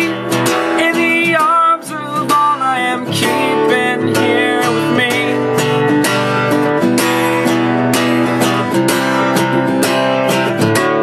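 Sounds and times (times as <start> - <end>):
acoustic guitar strumming: 0.0 - 11.0
person singing folk song: 0.0 - 11.0.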